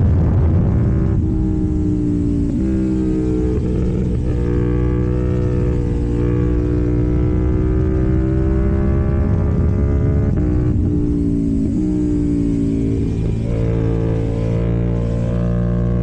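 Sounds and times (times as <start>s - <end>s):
motorcycle engine running hard: 0.0s - 16.0s.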